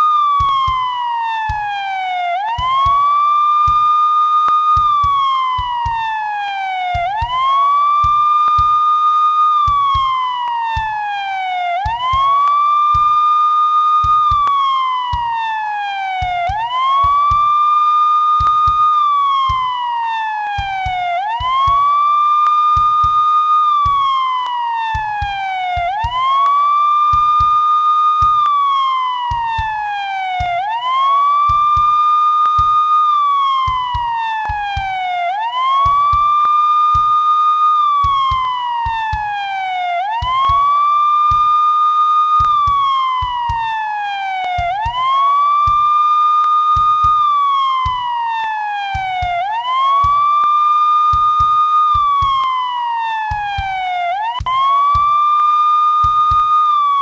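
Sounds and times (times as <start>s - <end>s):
police siren wailing: 0.0s - 57.0s.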